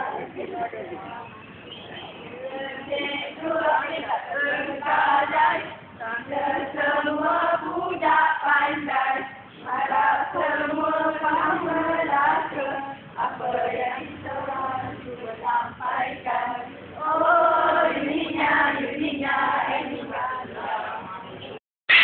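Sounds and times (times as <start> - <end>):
women singing together: 0.0 - 1.4, 2.3 - 21.6.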